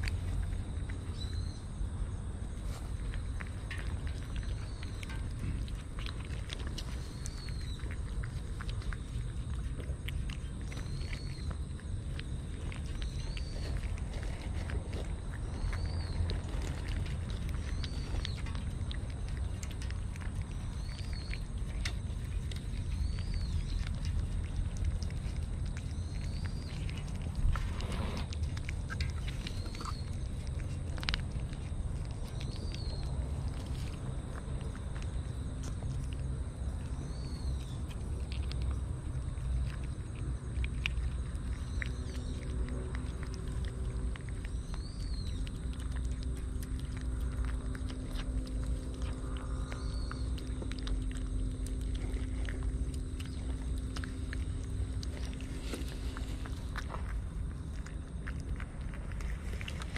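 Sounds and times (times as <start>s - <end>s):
kittens chewing and lapping: 0.0s - 59.9s
low rumble: 0.0s - 59.9s.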